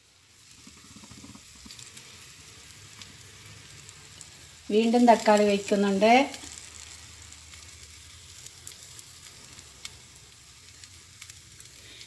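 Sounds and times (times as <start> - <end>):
egg batter sizzling in pot: 0.0 - 12.0.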